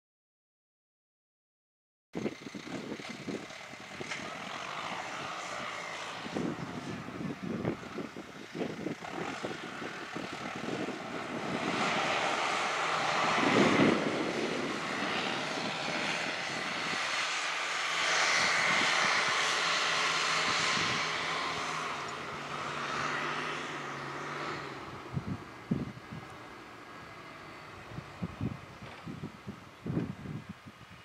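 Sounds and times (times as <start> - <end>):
tractor engine running: 2.2 - 30.2.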